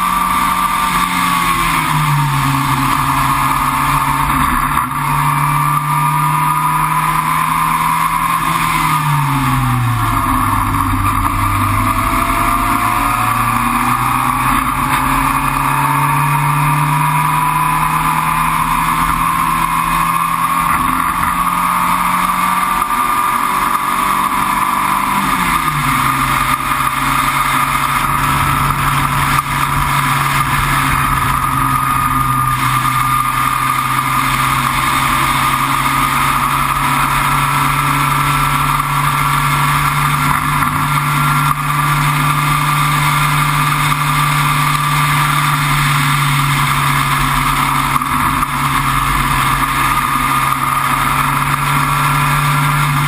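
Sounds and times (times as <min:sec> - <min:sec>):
racing car engine pulling hard: 0:00.0 - 0:53.0
wind and road noise: 0:00.0 - 0:53.0.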